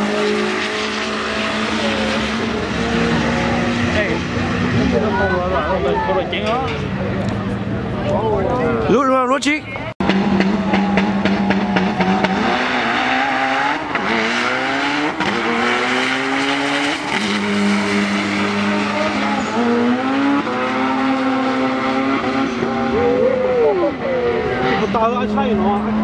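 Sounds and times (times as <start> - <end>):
drag car engine revving and accelerating: 0.0 - 6.3, 10.0 - 26.0.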